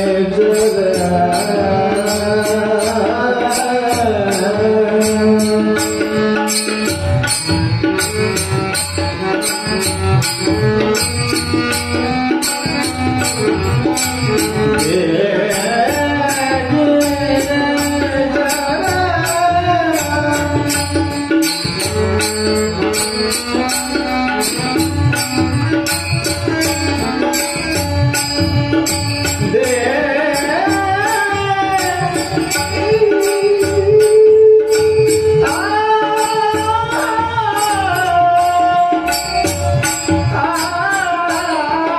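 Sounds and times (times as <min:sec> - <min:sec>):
person singing devotional song: 0:00.0 - 0:41.9.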